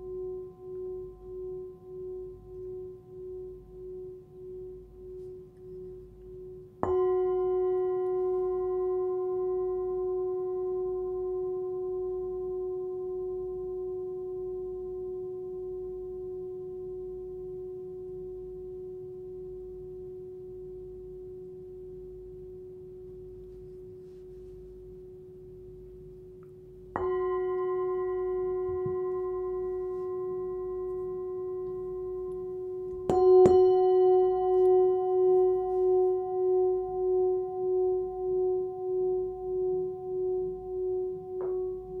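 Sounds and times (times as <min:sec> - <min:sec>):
singing bowl struck and ringing: 0:00.0 - 0:23.9, 0:25.0 - 0:42.0.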